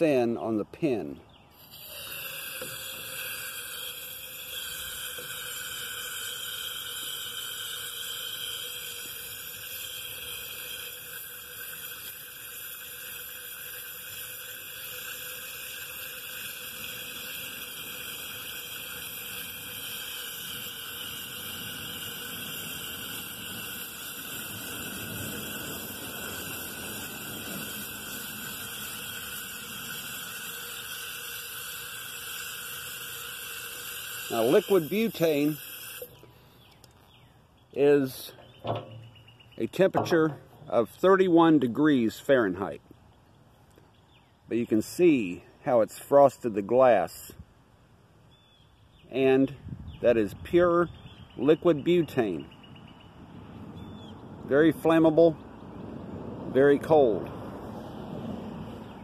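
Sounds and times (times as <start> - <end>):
butane spraying from valve hiss: 0.0 - 42.8, 44.5 - 47.4, 53.8 - 55.4.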